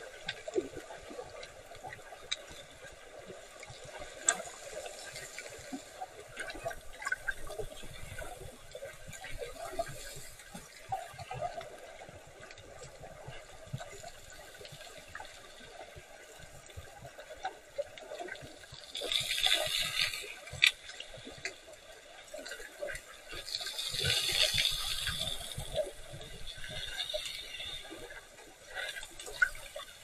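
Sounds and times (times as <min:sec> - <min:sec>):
muffled underwater water noise: 0:00.0 - 0:30.0
rushing swells of water: 0:00.0 - 0:30.0.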